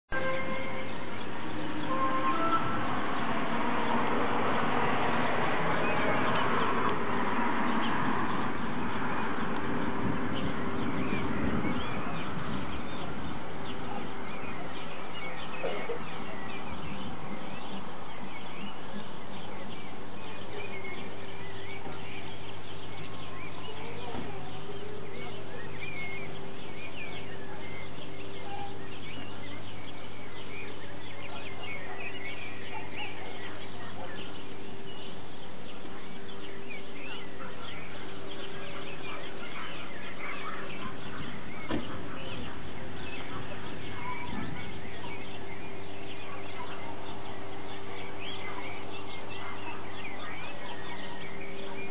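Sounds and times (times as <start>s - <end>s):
small birds chirping: 0.1s - 51.9s.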